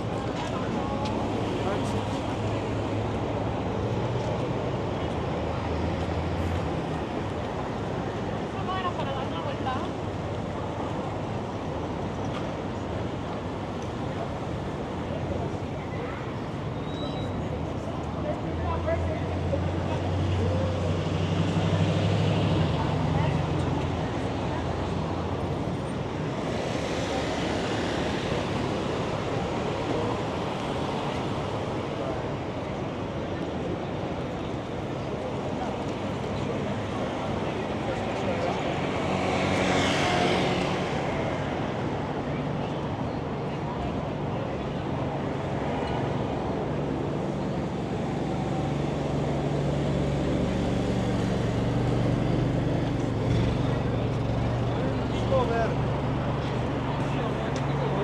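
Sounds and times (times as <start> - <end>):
traffic rushing: 0.0 - 58.0
wind: 0.0 - 58.0.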